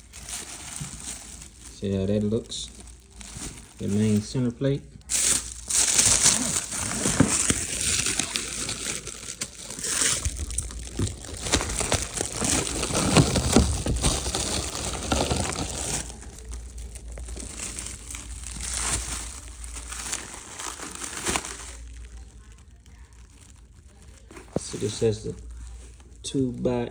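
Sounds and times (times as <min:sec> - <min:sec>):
packaging crinkling: 0:00.0 - 0:26.9.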